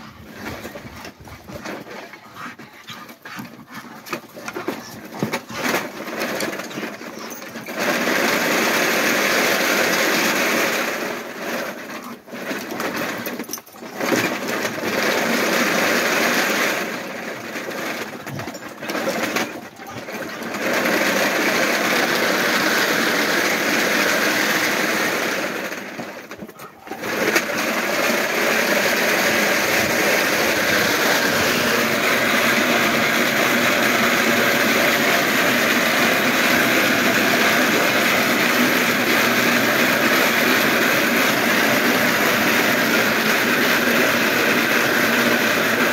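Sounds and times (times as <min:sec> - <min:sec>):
carpet mill belt and rollers whirring: 0:00.0 - 0:45.9.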